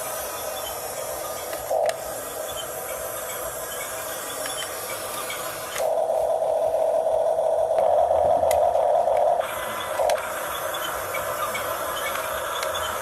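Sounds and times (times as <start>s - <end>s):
toy motors whining: 0.0s - 7.8s, 8.4s - 13.0s.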